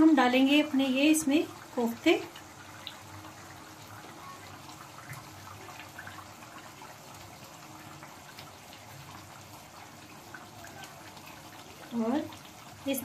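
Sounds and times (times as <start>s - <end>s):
gravy simmering in a pan: 0.0s - 13.0s.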